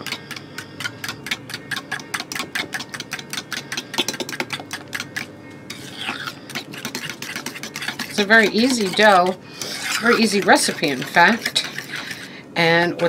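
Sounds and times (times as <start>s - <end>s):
utensil beating mixture in bowl: 0.0s - 13.0s.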